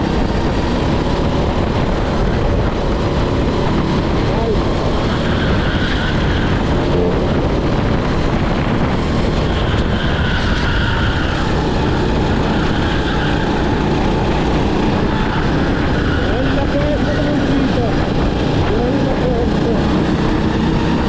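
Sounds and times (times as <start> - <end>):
kart engine running hard: 0.0 - 21.0
wind on microphone: 0.0 - 21.0.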